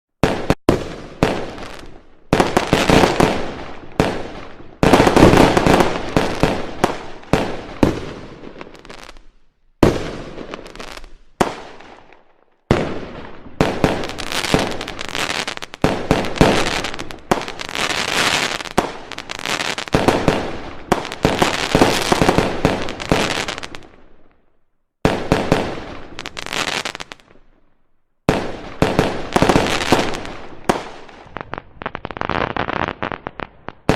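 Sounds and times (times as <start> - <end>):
fireworks bangs and crackles: 0.2 - 24.4, 25.0 - 33.9.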